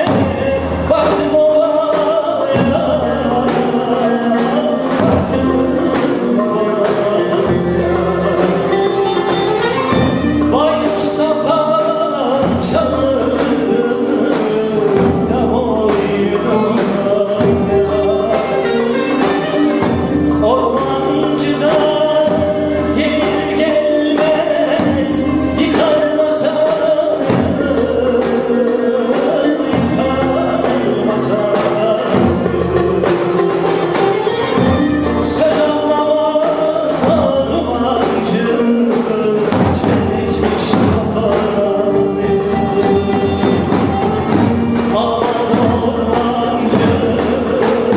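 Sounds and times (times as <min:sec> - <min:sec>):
live instrumental accompaniment: 0:00.0 - 0:47.9
man singing folk song: 0:00.0 - 0:47.9.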